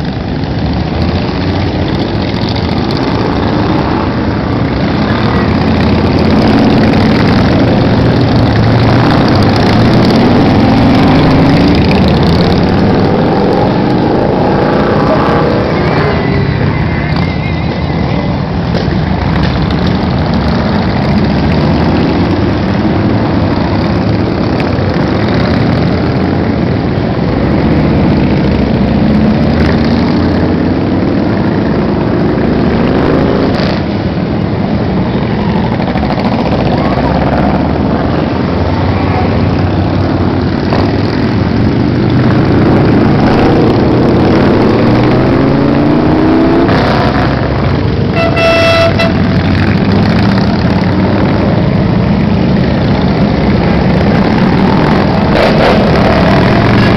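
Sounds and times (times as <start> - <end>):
motorcycle engines revving: 0.0 - 56.9
motorcycle engines running: 0.0 - 56.9.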